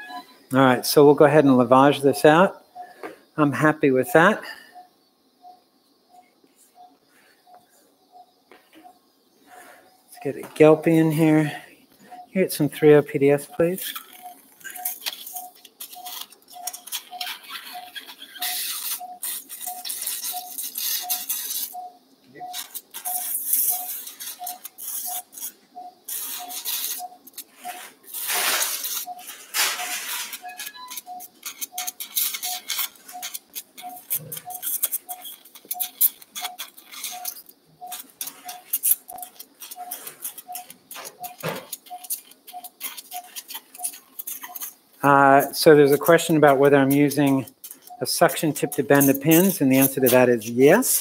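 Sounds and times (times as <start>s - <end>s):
monitor beeping: 0.0s - 51.0s.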